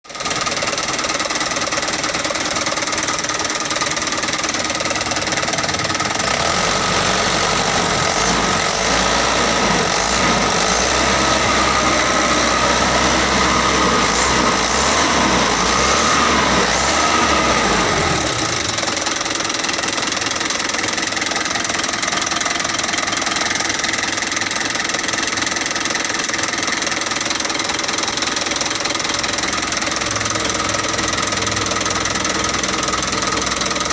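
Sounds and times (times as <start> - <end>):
truck engine running: 0.1 - 33.9.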